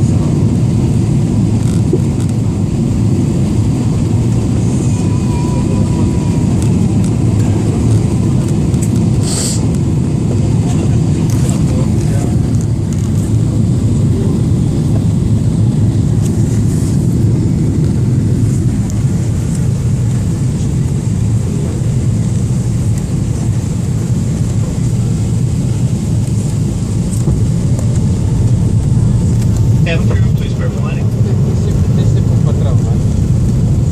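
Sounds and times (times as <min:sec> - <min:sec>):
airliner cabin engine rumble: 0:00.0 - 0:33.9.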